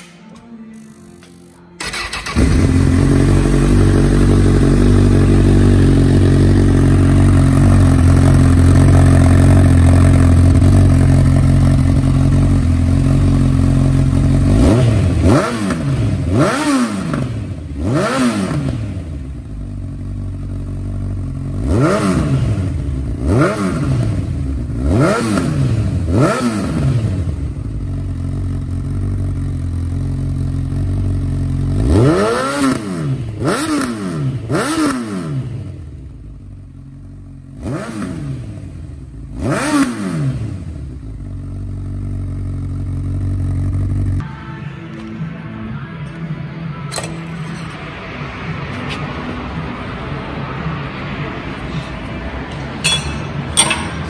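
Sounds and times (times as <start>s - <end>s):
motorcycle engine idling and revving: 0.8s - 54.0s.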